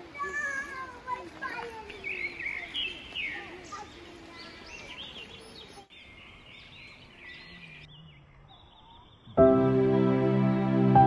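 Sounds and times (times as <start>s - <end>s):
small birds chirping: 0.2s - 9.5s.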